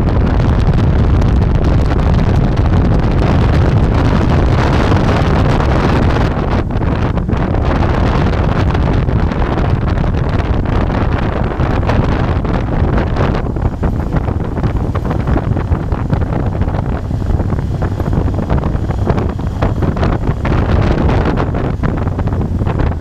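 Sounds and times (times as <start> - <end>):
motorcycle engine cruising: 0.0 - 23.0
wind buffeting microphone: 0.0 - 23.0.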